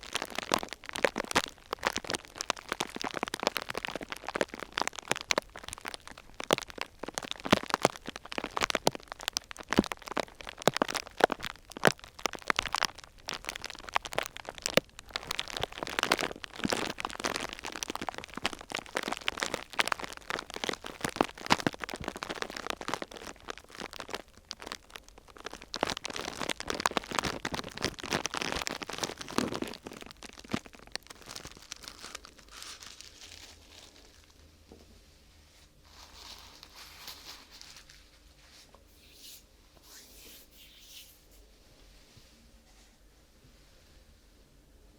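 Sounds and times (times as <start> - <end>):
thin sheet crinkling: 0.0 - 34.5, 35.8 - 41.4.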